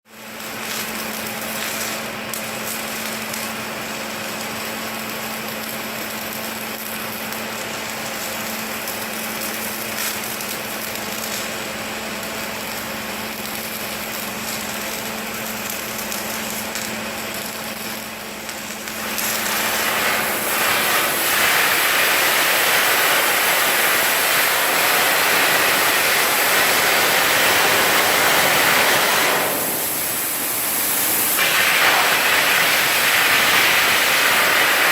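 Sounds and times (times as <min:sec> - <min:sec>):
loud steady hiss: 0:00.2 - 0:34.9.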